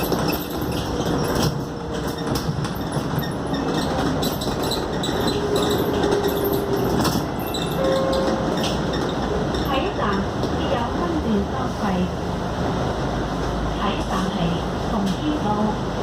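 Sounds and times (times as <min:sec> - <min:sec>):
rattles and clicks from bus body: 0:00.0 - 0:11.4, 0:12.4 - 0:15.7
road noise: 0:00.0 - 0:16.0.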